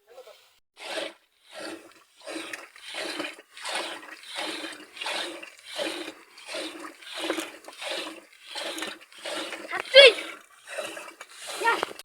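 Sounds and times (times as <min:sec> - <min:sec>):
rhythmic water splashes: 0:00.8 - 0:12.0.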